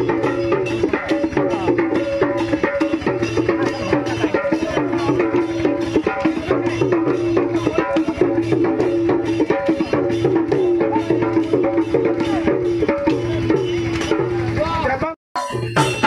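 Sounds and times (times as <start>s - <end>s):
drums and percussion beat: 0.0s - 16.0s.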